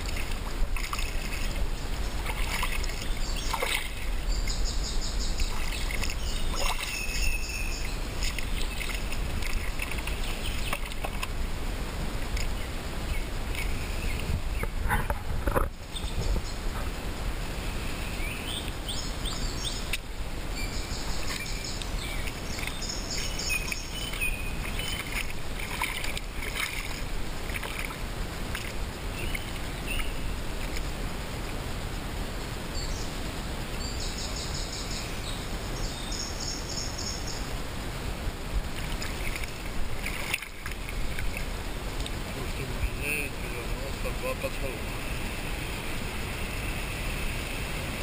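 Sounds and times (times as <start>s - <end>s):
songbirds singing: 0.0s - 31.0s, 32.6s - 37.8s, 38.6s - 48.0s
river rushing over stones: 0.0s - 48.0s.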